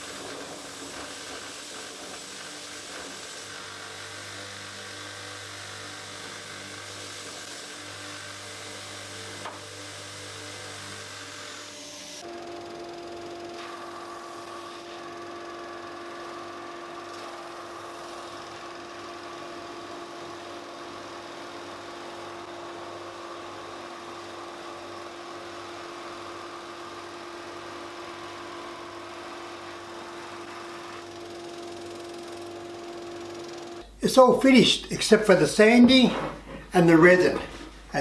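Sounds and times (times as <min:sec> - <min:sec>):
small electric motor humming: 0:00.0 - 0:33.9.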